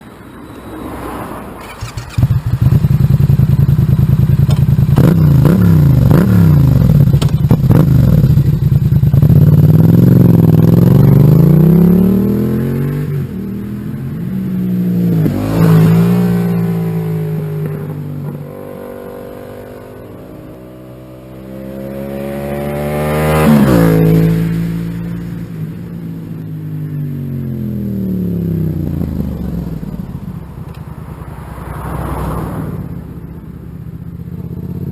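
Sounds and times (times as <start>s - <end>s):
motorcycle engine revving: 1.6s - 34.9s.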